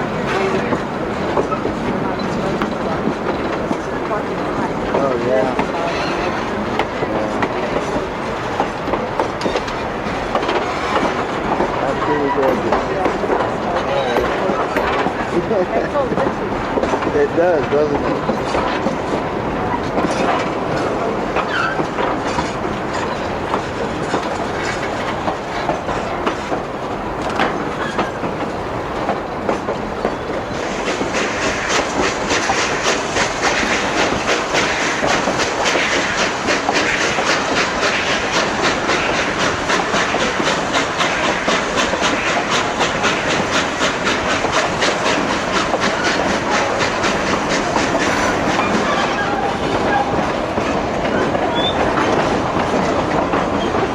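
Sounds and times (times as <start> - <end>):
train wheels clicking over rails: 0.0 - 53.9.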